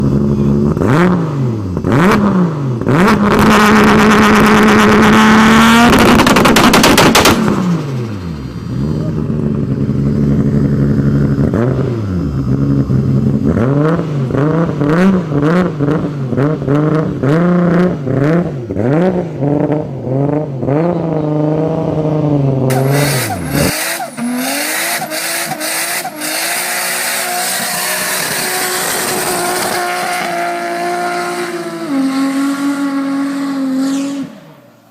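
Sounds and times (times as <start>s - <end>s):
car engine revving: 0.0s - 34.8s.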